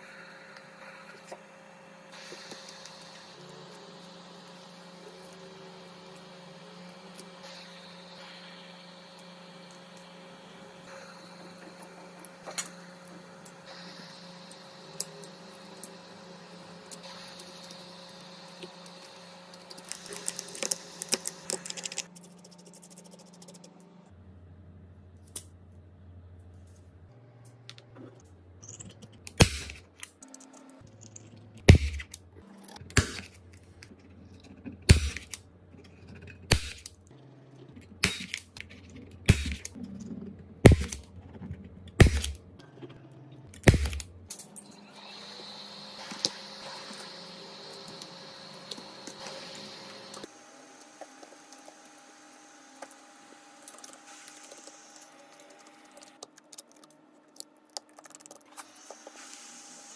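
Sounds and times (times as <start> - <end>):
machine hum: 0.0 - 26.4, 27.0 - 58.3.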